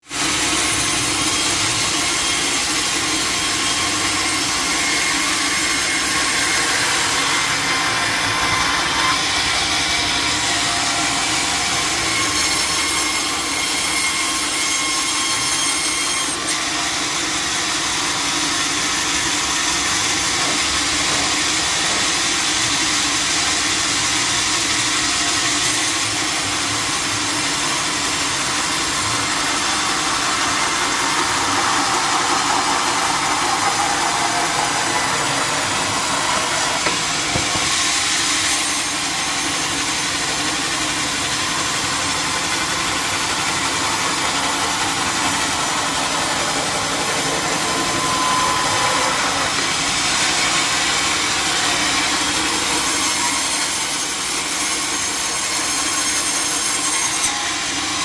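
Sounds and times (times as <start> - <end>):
saw cutting timber: 0.0 - 58.0.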